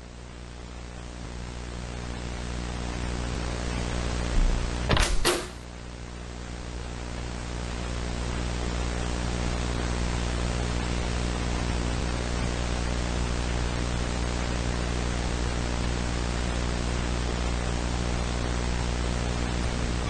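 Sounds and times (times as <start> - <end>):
low electrical hum: 0.0 - 20.0
static hiss: 0.0 - 20.0.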